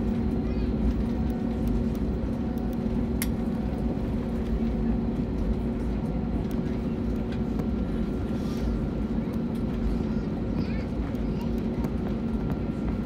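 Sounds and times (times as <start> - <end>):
aircraft cabin rumble on runway: 0.0 - 13.0
low hum: 0.0 - 13.0.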